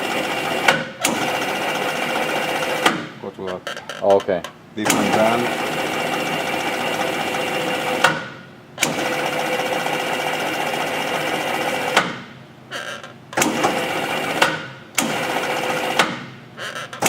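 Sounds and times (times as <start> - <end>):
machine drive whine: 0.0 - 17.0.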